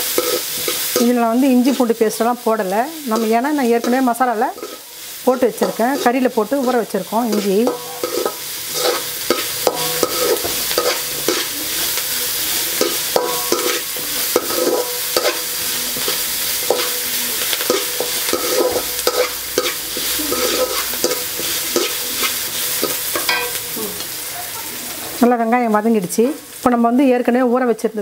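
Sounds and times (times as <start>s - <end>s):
metal spatula scraping pan: 0.0s - 1.9s, 3.0s - 23.7s
food sizzling in hot oil: 0.0s - 28.0s.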